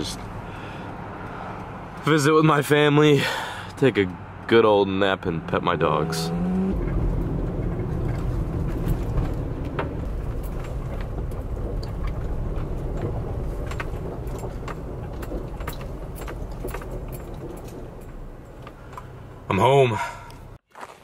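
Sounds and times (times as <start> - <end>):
car engine and road rumble: 0.0 - 20.6.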